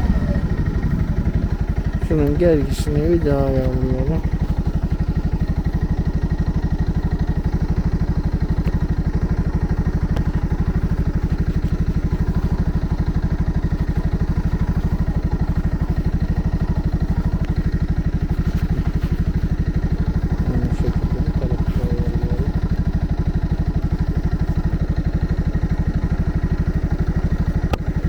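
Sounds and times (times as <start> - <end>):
atv engine idling: 0.0 - 28.0.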